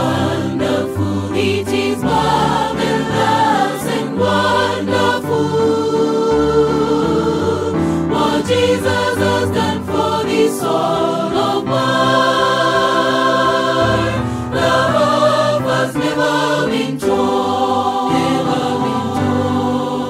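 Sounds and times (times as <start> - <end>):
choir singing a hymn: 0.0 - 20.0.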